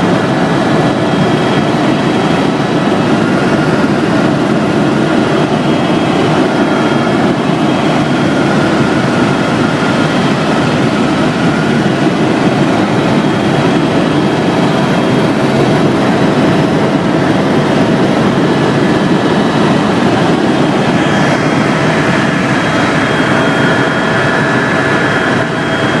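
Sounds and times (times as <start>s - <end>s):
aircraft engine drone: 0.0s - 26.0s.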